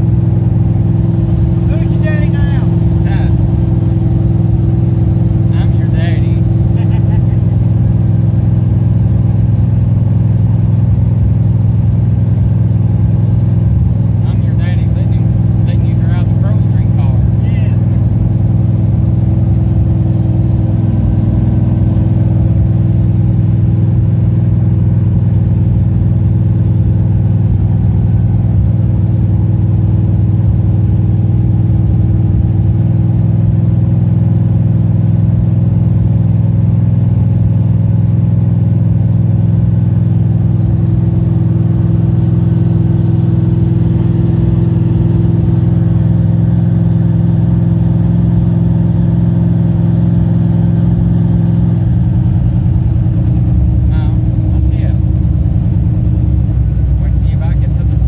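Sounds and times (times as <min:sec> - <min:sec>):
loud car engine from inside cabin: 0:00.0 - 0:58.0.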